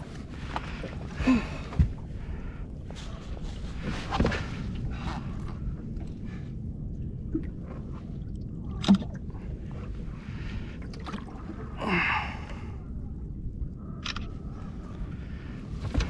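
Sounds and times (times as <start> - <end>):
low rumble of wind and water: 0.0 - 16.0.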